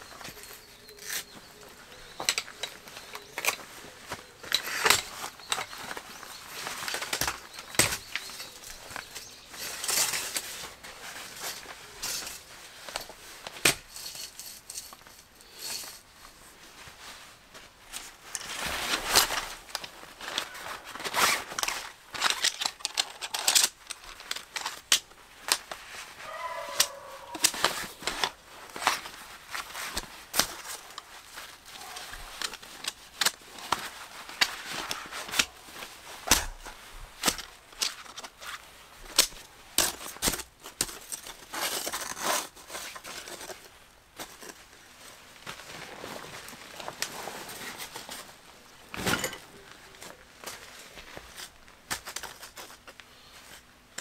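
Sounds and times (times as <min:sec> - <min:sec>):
fabric rustling: 0:00.0 - 0:22.8, 0:24.0 - 0:40.1, 0:41.4 - 0:54.0.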